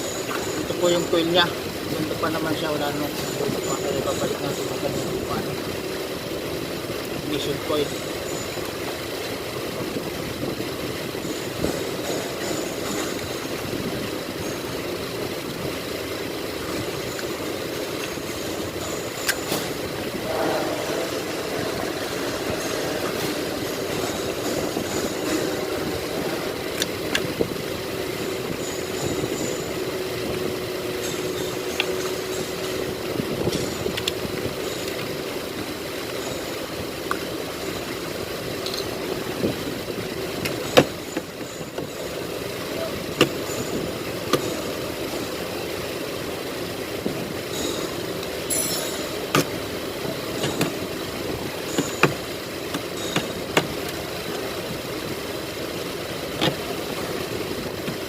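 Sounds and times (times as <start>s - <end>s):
engine rumble: 0.0s - 58.0s.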